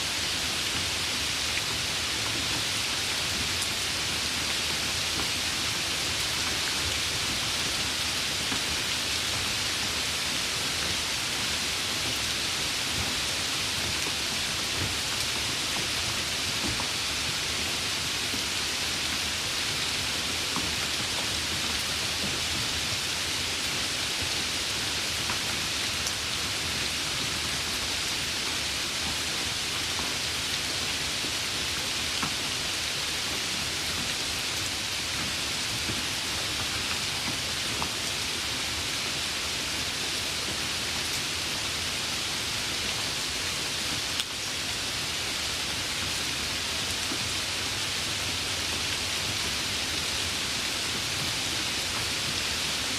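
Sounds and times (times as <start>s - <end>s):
steady rain hiss: 0.0s - 52.9s.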